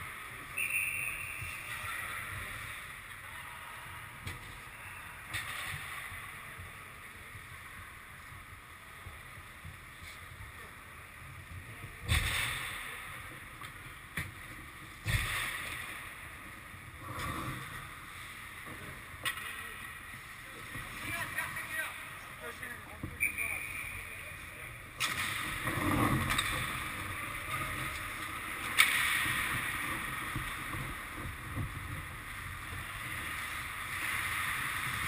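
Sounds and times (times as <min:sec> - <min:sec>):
rink background noise: 0:00.0 - 0:35.0.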